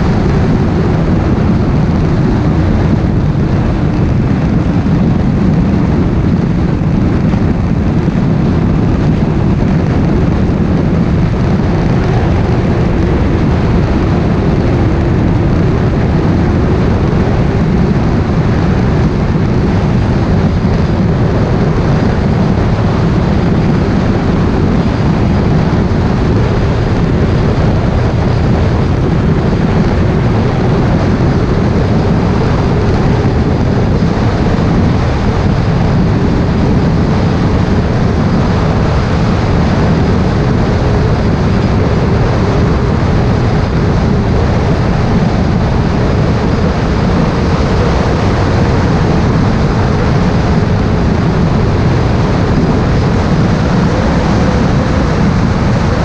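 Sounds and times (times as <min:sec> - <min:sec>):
motorcycle engine drone: 0:00.0 - 0:56.0
wind and road noise: 0:00.0 - 0:56.0.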